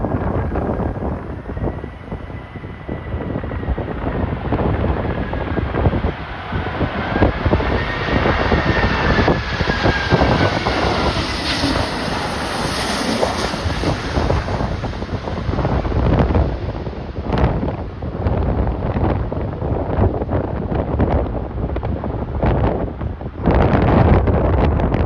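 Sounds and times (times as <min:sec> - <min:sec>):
jet engine whine: 0:00.0 - 0:25.0
wind buffeting microphone: 0:00.0 - 0:25.0.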